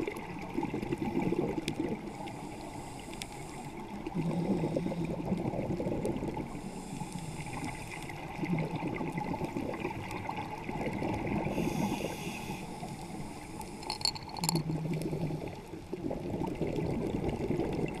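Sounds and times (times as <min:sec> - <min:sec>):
underwater bubbling and gurgling: 0:00.0 - 0:18.0.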